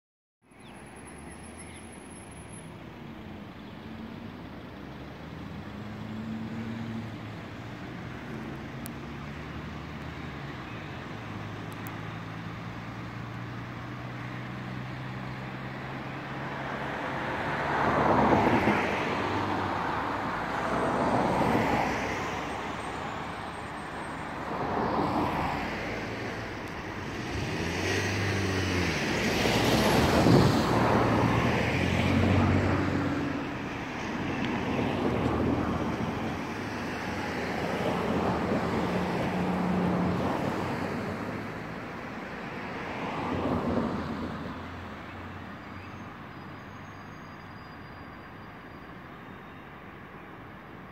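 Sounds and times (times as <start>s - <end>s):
vehicles passing: 0.4s - 50.9s.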